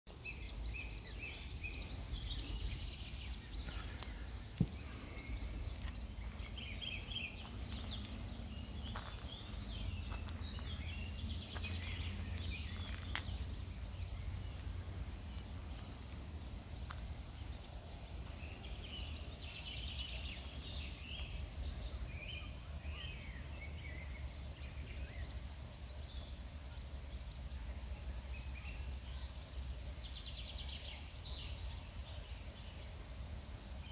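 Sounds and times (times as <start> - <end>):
songbirds chirping: 0.1 - 33.9.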